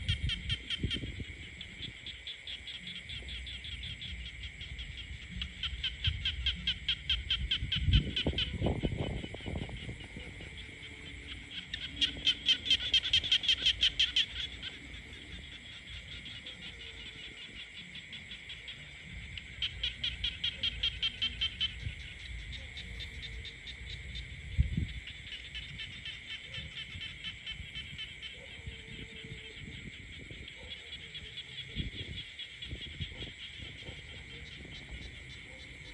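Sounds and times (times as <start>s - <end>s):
frogs croaking: 0.0s - 35.9s.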